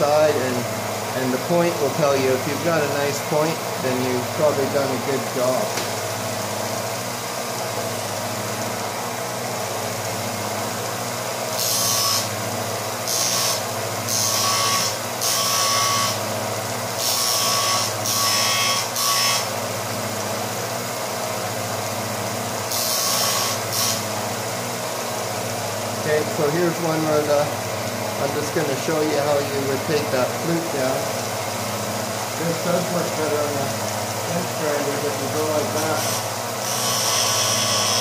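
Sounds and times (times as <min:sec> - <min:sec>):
bench sander running: 0:00.0 - 0:07.2, 0:08.2 - 0:38.0.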